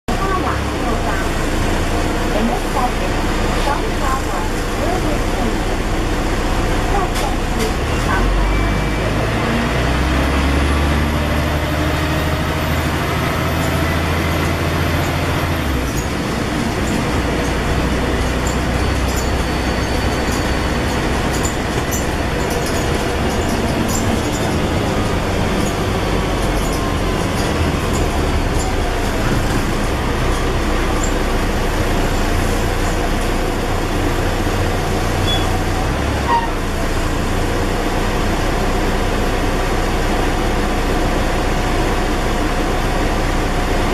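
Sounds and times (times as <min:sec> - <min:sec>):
bus engine running: 0:00.0 - 0:43.9
road noise: 0:00.1 - 0:43.9.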